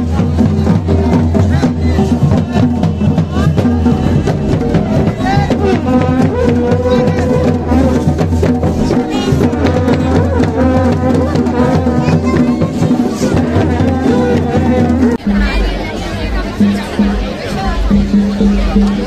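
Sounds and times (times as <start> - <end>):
music with steady drumming: 0.0 - 19.0.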